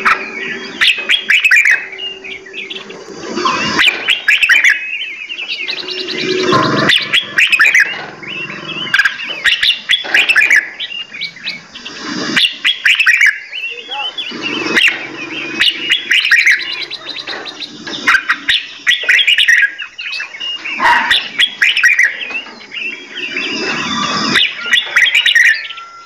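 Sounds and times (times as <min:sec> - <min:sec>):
songbirds chirping and whistling: 0:00.0 - 0:26.0.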